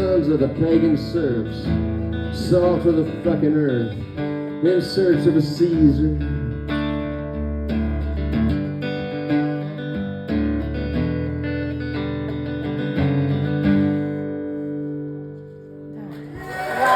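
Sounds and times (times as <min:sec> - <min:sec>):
acoustic guitar chords: 0:00.0 - 0:16.6.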